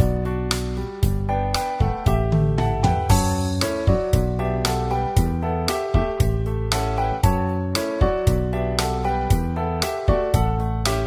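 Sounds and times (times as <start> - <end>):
gentle keyboard melody: 0.0 - 11.0.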